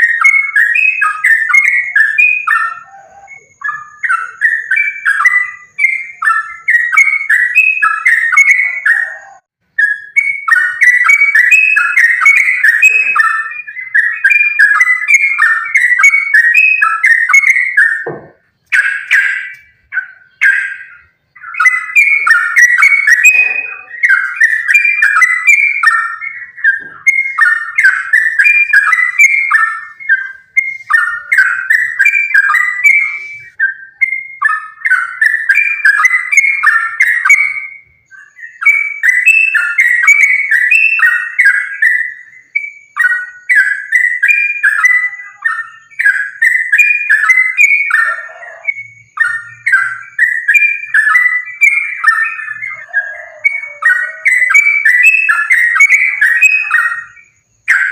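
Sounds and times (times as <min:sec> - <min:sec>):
bulbul singing: 0:00.0 - 0:57.9.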